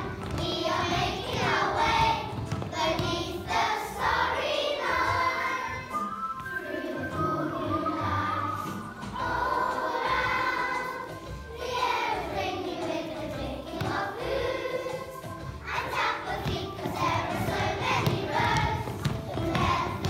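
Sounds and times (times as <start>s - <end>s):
children singing: 0.0s - 20.0s
music: 0.0s - 20.0s.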